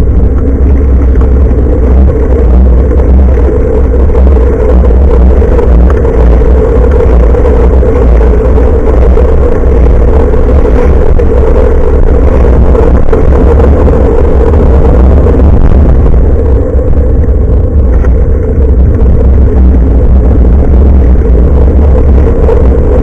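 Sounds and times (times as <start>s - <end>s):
constant hum: 0.0s - 23.0s
road rumble: 0.0s - 23.0s
wind noise on microphone: 0.0s - 23.0s.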